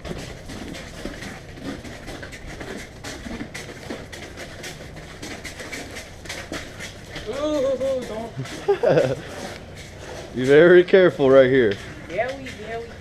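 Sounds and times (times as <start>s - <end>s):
footsteps scuffing and crunching: 0.0s - 13.0s
steady low hum: 0.0s - 13.0s.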